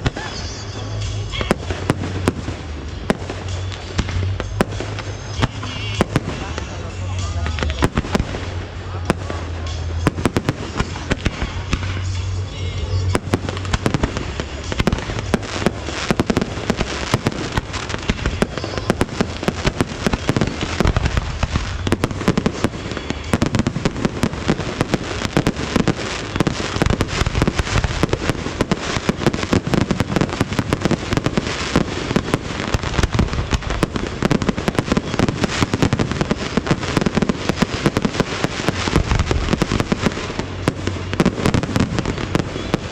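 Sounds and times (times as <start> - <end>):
fireworks bangs and crackles: 0.0 - 42.9
music playing: 0.0 - 42.9.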